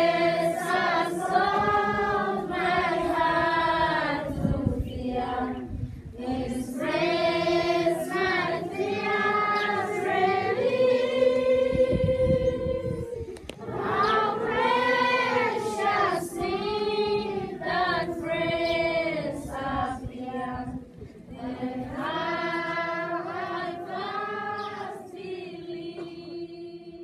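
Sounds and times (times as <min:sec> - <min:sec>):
children's choir singing: 0:00.0 - 0:27.0.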